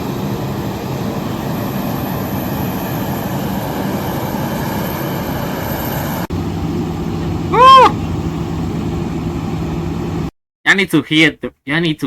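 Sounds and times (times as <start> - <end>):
jet engines running: 0.0 - 10.3.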